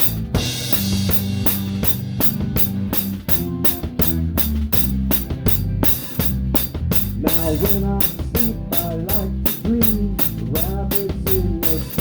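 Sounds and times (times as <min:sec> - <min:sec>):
dampened snare drum: 0:00.0 - 0:12.0
kick drum: 0:00.0 - 0:12.0
live rock band playing: 0:00.0 - 0:12.0.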